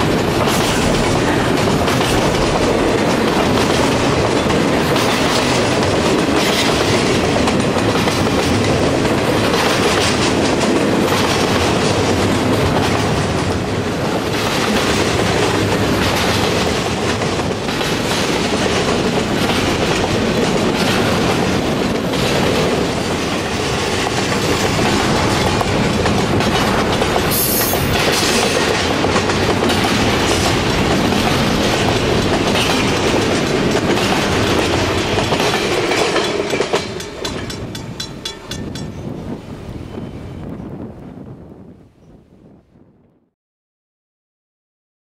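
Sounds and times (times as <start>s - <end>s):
train wheels clicking: 0.0s - 39.5s
freight train wheels on rails: 0.0s - 42.1s.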